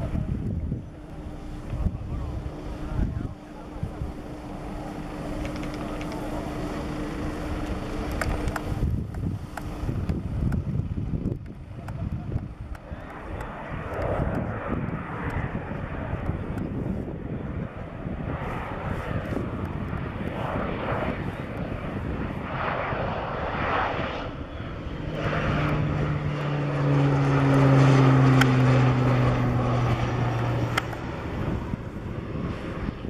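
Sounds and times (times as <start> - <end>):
propeller plane flying past: 0.0 - 33.0.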